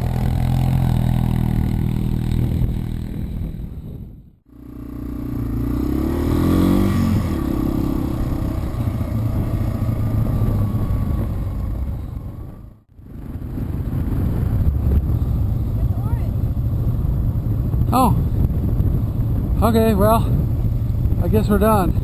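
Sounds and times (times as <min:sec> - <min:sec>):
wind noise: 0:00.0 - 0:04.4, 0:05.4 - 0:22.0
small vehicle engine running: 0:00.0 - 0:17.8.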